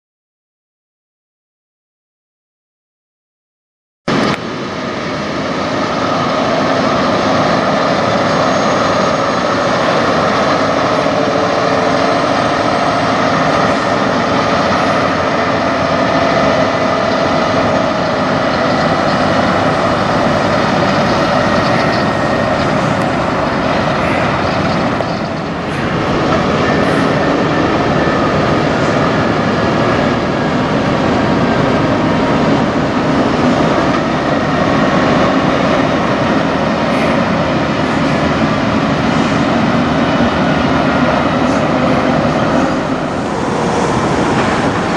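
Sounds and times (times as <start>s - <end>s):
truck diesel engines running: 4.1s - 44.9s.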